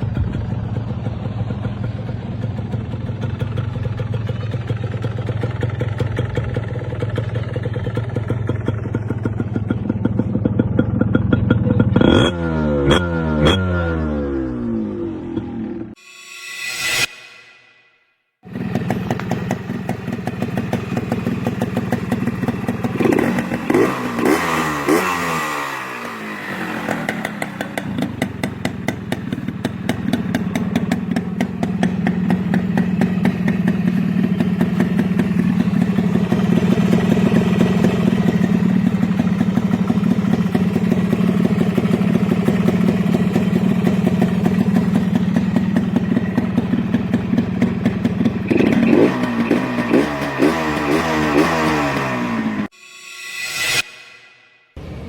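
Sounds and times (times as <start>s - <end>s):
two-stroke motorcycle engine revving: 0.0s - 16.0s, 18.4s - 52.7s.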